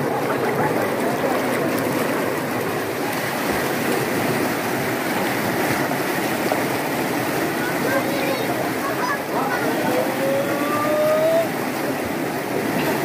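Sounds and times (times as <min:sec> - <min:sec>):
water rushing down spillway: 0:00.0 - 0:13.0.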